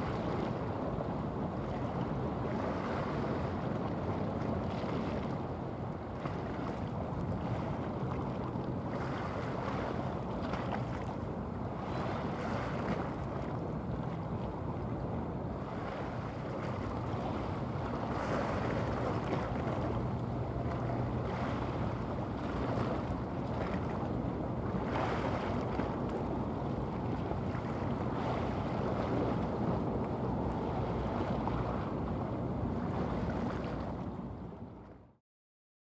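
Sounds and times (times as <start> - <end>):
wind on microphone: 0.0 - 35.0
ship engine low rumble: 0.0 - 35.2
water wash and propeller churning: 0.0 - 35.2.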